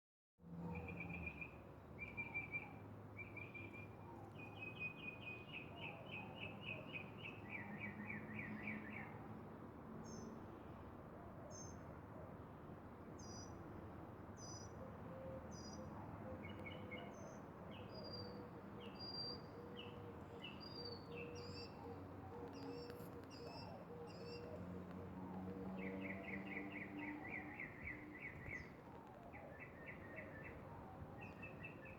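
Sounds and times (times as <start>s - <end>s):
songbirds singing: 0.6s - 9.2s, 10.0s - 10.8s, 11.5s - 31.9s.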